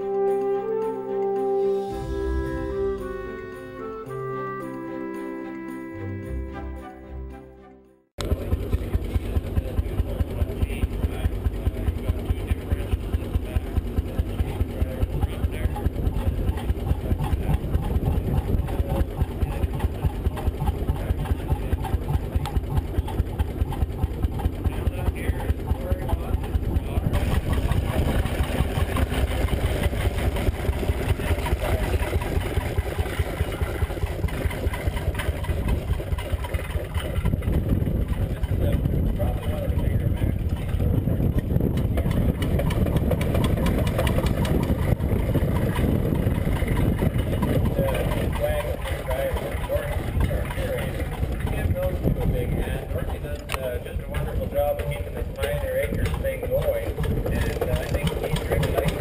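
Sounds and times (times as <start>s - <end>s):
single-cylinder engine thumping: 8.2s - 59.0s.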